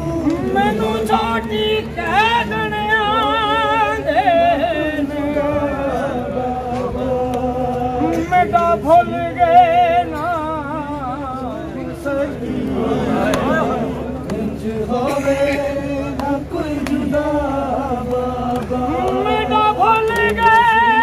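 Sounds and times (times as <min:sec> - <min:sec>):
man chanting a lament: 0:00.0 - 0:21.0.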